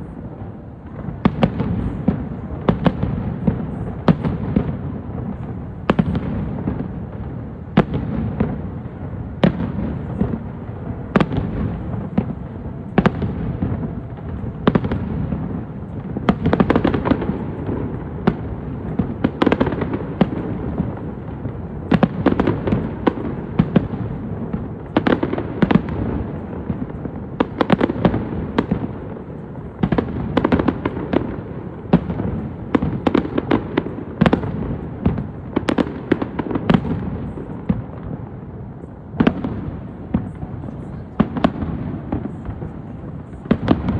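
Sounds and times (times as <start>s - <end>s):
fireworks bangs and cracks: 0.0s - 43.9s.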